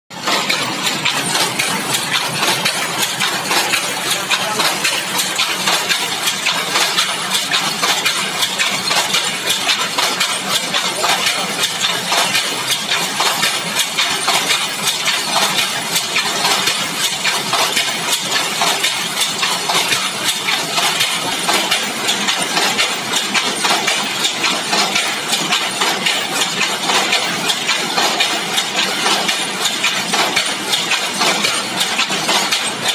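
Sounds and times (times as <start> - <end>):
power loom clattering: 0.1 - 32.9.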